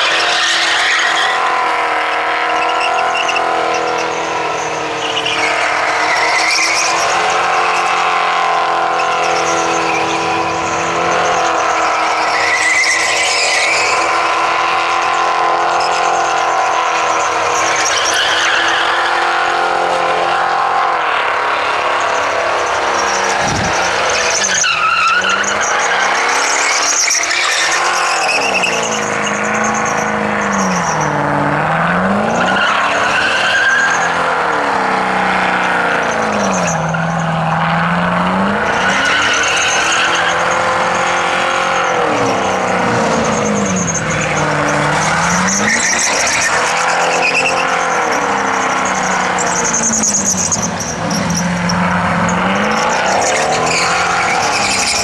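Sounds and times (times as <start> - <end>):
engine revving high: 0.0 - 55.0
tyres squealing: 0.0 - 55.0.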